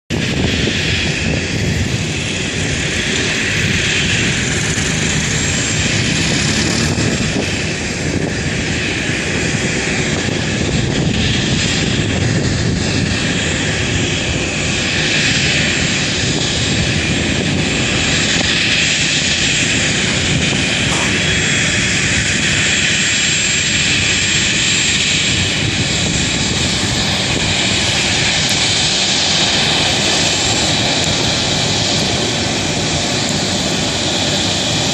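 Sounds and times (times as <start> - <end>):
airliner engines with high whine: 0.1 - 34.9.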